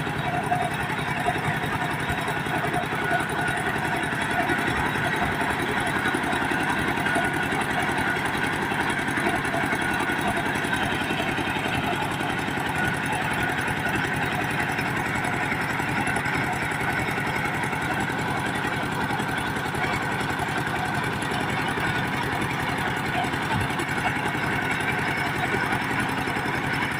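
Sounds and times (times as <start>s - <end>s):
diesel engine running steadily: 0.0s - 26.9s.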